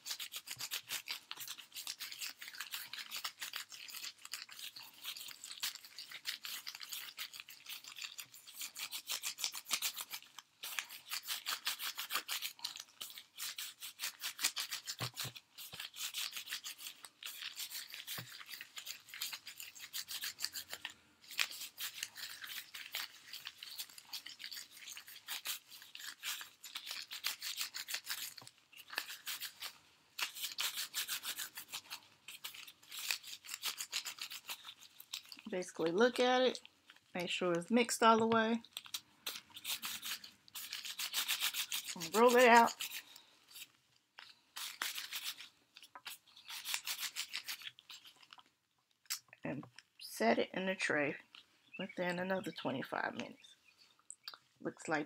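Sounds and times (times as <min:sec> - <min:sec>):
hands kneading putty: 0:00.0 - 0:37.0, 0:38.2 - 0:48.3.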